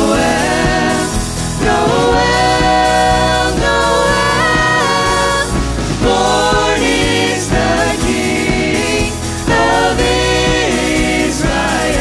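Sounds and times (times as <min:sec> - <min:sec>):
band accompaniment: 0:00.0 - 0:12.0
choir singing in harmony: 0:00.0 - 0:12.0.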